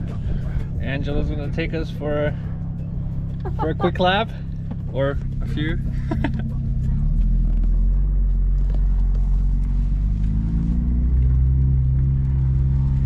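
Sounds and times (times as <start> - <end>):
car engine humming inside cabin: 0.0 - 13.0.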